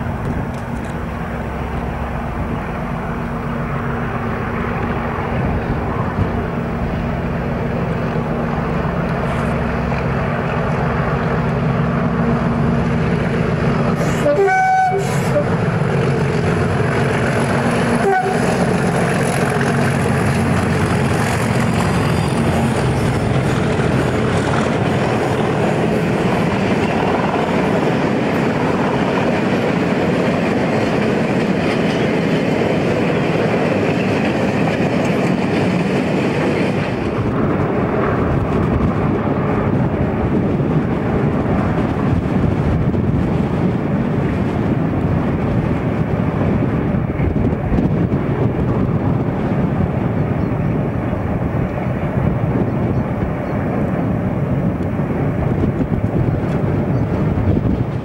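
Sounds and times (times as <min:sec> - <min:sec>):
diesel locomotives passing: 0:00.0 - 0:58.0.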